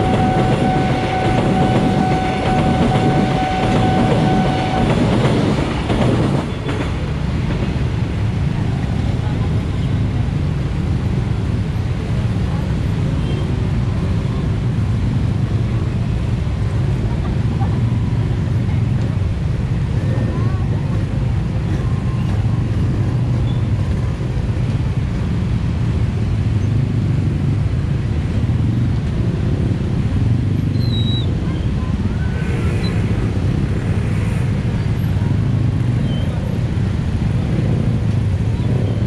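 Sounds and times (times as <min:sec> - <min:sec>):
traffic engines idling rumble: 0:00.0 - 0:39.0.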